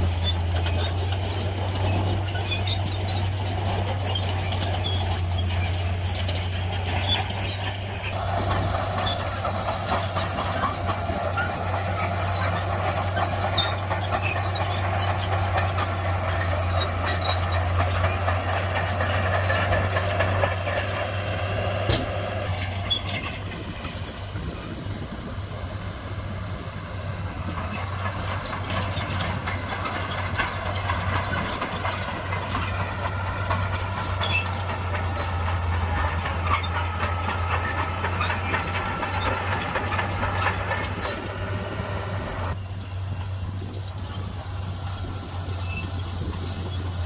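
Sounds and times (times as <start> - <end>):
metallic clanks and rattles: 0.0 - 24.8, 27.3 - 43.6
heavy diesel machinery drone: 0.0 - 47.0.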